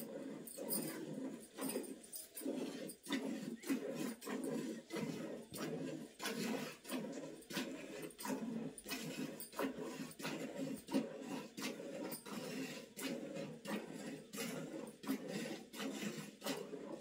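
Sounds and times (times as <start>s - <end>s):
milk squirting into a pail: 0.2s - 17.0s.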